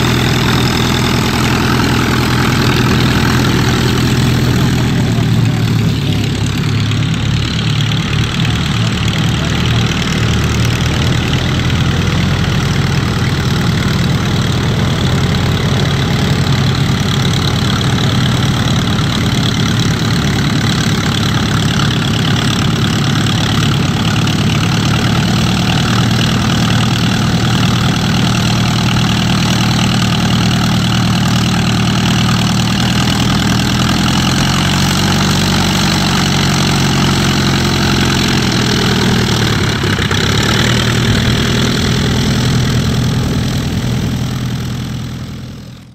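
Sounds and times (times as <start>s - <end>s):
propeller engine idling: 0.0s - 45.9s.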